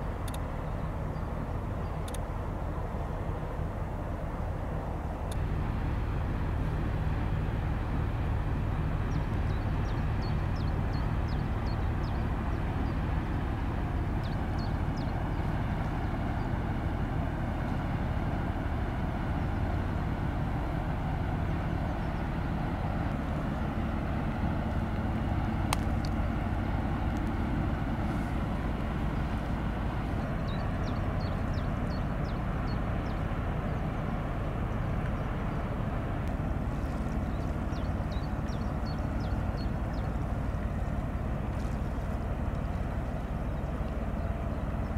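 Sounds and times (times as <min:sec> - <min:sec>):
yacht engines droning: 0:00.0 - 0:44.9.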